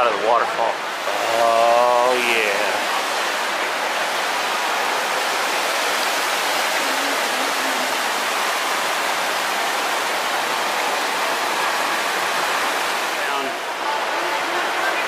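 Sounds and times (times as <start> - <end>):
indoor waterfall splashing: 0.0 - 15.0.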